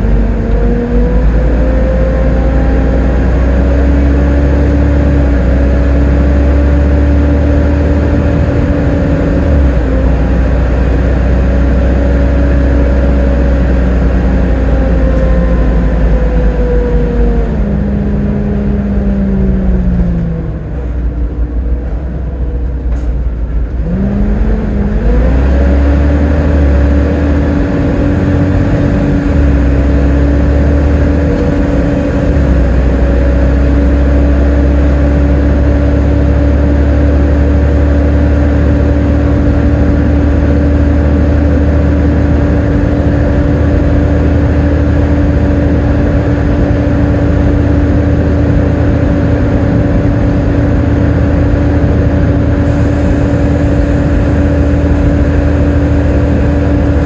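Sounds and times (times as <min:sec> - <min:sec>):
bus engine whine and rumble: 0:00.0 - 0:57.0.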